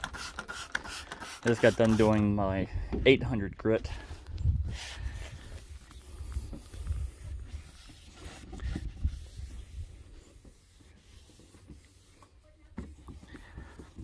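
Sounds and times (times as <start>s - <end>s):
towel wiping wet plastic: 0.0s - 2.2s, 4.8s - 14.0s.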